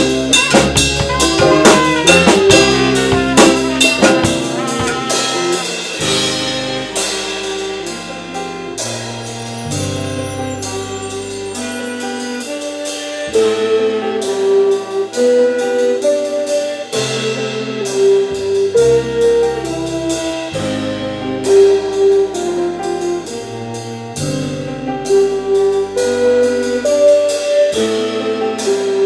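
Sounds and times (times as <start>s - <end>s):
drum kit with cymbals: 0.0s - 29.0s
jazz band playing: 0.0s - 29.0s
saxophones: 0.0s - 29.0s.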